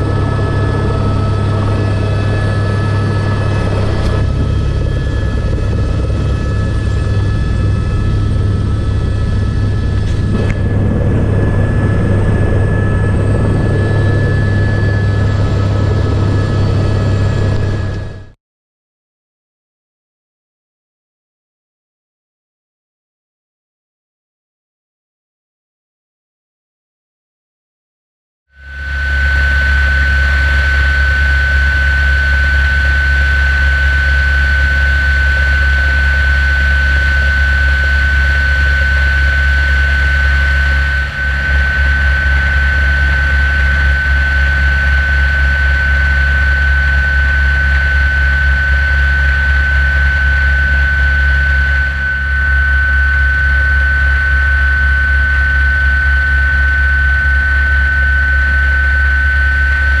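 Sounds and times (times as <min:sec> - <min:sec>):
helicopter rotor drone: 0:00.0 - 0:18.4, 0:28.6 - 1:00.0
high turbine whine: 0:00.0 - 0:18.4, 0:28.6 - 1:00.0.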